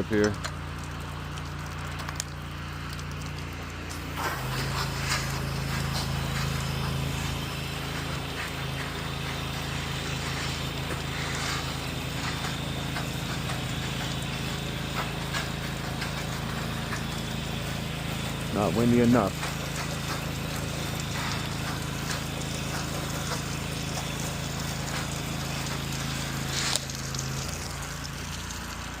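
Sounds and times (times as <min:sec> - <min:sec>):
pressure washer engine running: 0:00.0 - 0:29.0
water spray hiss: 0:00.0 - 0:29.0.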